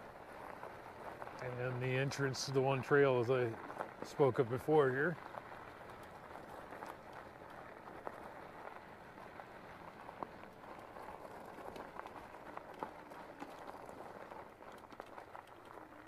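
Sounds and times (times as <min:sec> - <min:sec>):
bike tires crunching on gravel: 0:00.0 - 0:16.0
small stones ticking: 0:00.2 - 0:16.0.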